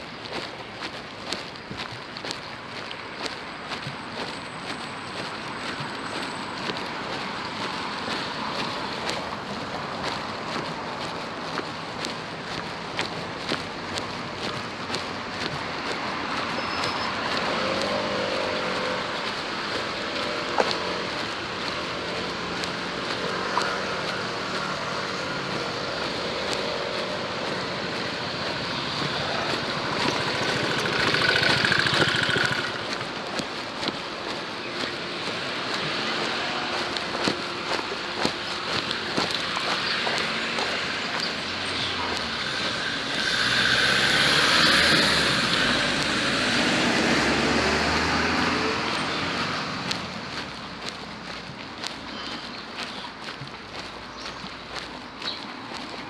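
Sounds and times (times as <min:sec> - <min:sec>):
street traffic noise: 0:00.0 - 0:56.0
motorcycle passing: 0:01.8 - 0:56.0.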